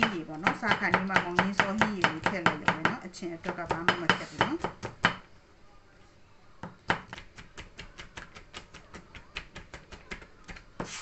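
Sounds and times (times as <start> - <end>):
knife chopping on plastic board: 0.0 - 5.2, 6.6 - 11.0.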